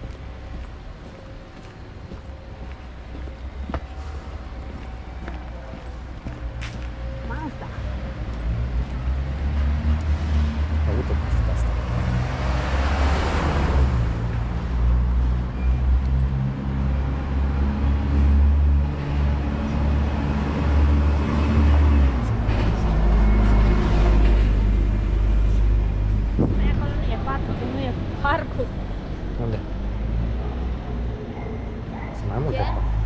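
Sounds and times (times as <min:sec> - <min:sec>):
rush of passing vehicles: 0:00.0 - 0:33.0.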